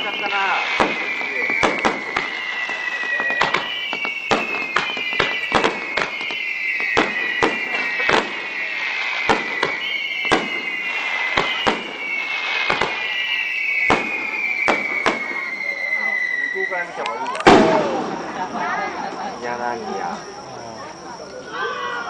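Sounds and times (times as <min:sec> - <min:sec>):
high falling whistle: 0:00.0 - 0:18.7, 0:21.1 - 0:22.0
fireworks bangs: 0:00.0 - 0:22.0.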